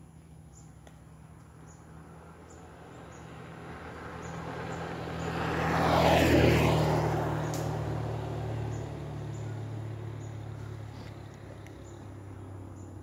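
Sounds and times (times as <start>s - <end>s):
low engine hum: 0.0s - 13.0s
vehicle passing on road: 0.5s - 13.0s.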